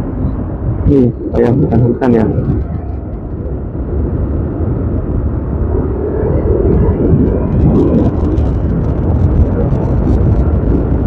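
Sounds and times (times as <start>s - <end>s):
scooter engine low rumble: 0.0s - 11.0s.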